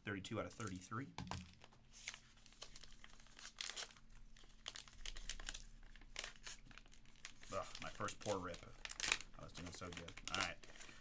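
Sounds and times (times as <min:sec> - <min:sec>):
foil wrapper crinkling and tearing: 0:01.5 - 0:11.0.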